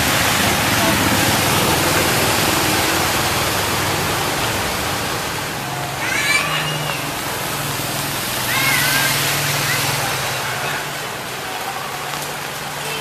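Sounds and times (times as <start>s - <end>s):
heavy rain: 0.0s - 13.0s
water on flooded street: 0.0s - 13.0s.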